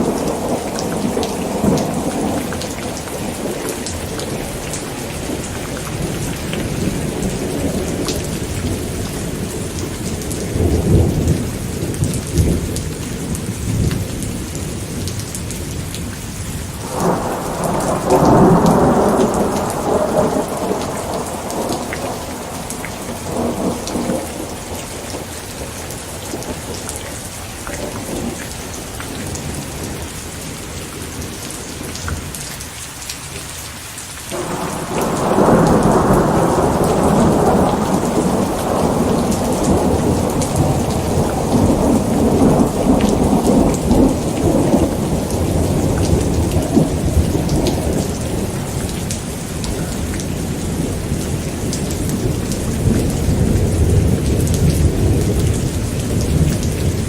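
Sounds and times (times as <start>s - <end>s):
rolling thunder: 0.0s - 16.0s, 16.8s - 32.4s, 34.3s - 57.0s
steady rain: 0.0s - 57.0s.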